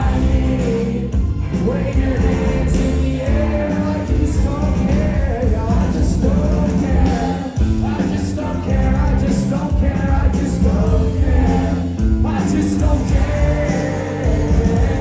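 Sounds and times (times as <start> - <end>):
live rock band with singing: 0.0 - 15.0.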